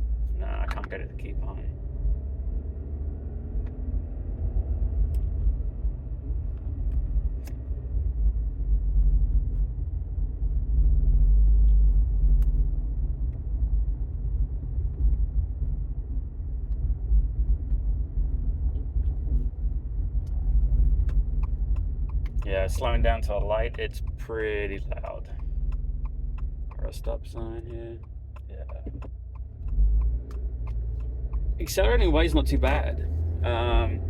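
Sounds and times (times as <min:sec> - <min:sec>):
car exhaust drone in cabin: 0:00.0 - 0:34.0
road rumble: 0:00.0 - 0:34.0.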